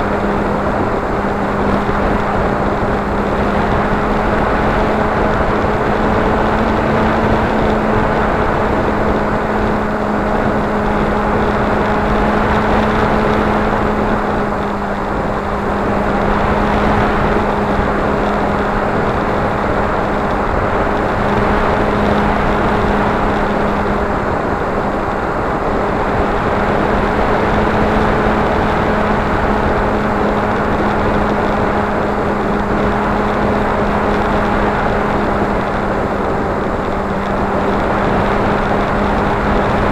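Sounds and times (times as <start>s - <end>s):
model aircraft motor humming: 0.0s - 39.9s
rushing air noise: 0.0s - 39.9s.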